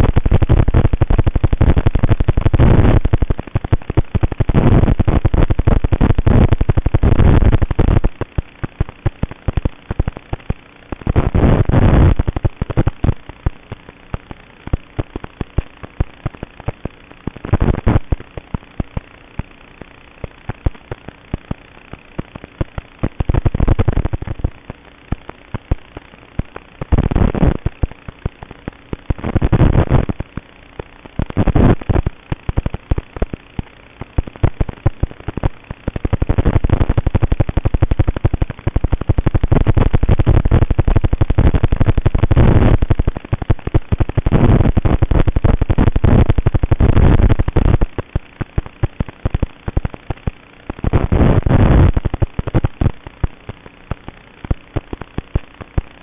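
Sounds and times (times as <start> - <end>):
crackling buzz: 0.0 - 56.0.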